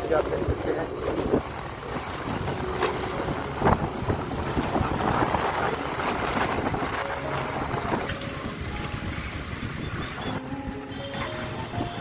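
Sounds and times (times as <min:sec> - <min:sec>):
scooter engine running: 0:00.0 - 0:12.0
wind noise on microphone: 0:00.0 - 0:12.0.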